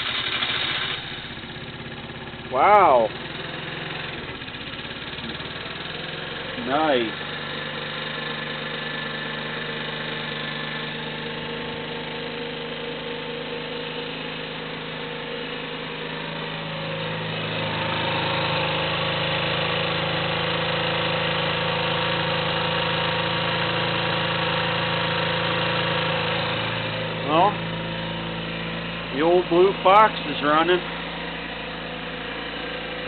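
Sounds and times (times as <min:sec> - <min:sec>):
moped engine idling: 0:00.0 - 0:33.0.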